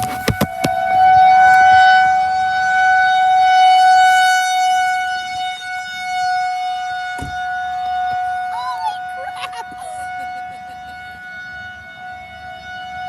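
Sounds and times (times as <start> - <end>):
rotating tornado siren: 0.8 - 13.0.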